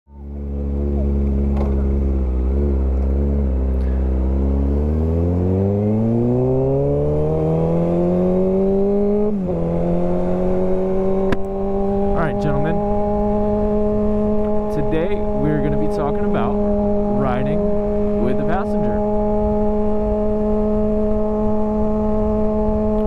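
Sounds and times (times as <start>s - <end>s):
motorcycle engine idling and accelerating: 0.1s - 23.0s.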